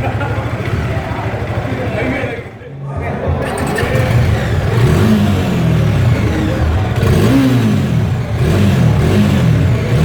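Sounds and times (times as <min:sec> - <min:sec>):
motorcycle engine revving: 0:00.0 - 0:02.6, 0:03.2 - 0:10.0.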